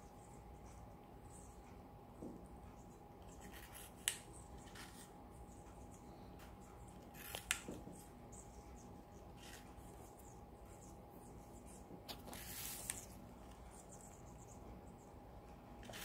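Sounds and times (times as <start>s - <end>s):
faint steady hum: 0.0s - 16.0s
beaks clicking on apple and plate: 2.7s - 16.0s.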